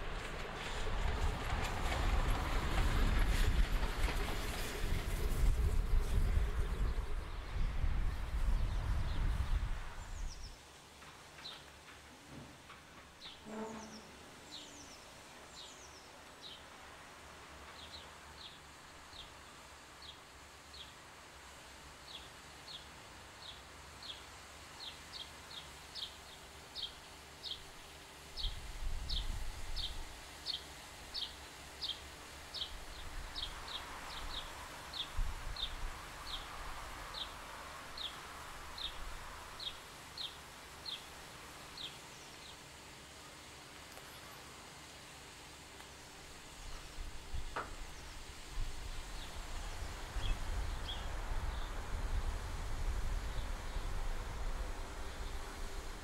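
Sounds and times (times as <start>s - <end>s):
outdoor background noise: 0.0s - 56.0s
soft hiss: 0.0s - 56.0s.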